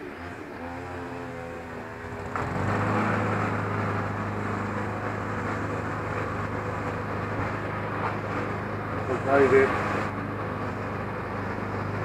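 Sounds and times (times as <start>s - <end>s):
motor humming and rushing: 0.0s - 12.0s.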